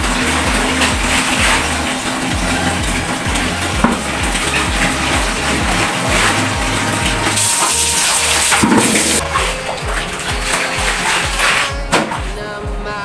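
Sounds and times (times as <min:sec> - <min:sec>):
clothes swished in soapy water: 0:00.0 - 0:12.4
tap running into bucket: 0:00.0 - 0:12.4
background music with bass: 0:00.0 - 0:13.0.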